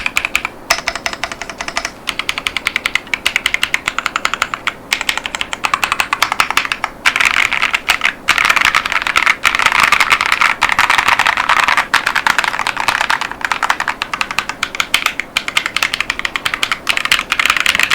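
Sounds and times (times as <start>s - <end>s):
fast typing on mechanical keyboard: 0.0s - 17.9s.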